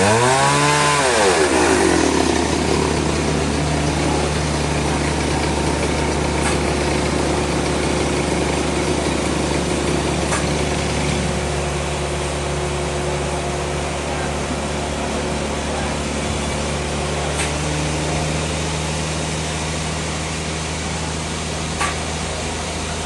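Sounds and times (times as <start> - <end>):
sawmill engine idling: 0.0 - 23.0.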